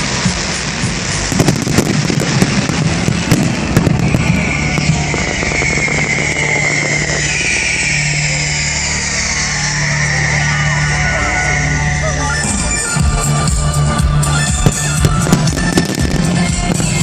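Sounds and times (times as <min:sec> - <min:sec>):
fireworks crackling and banging: 0:00.0 - 0:17.0
loud background music: 0:00.0 - 0:17.0.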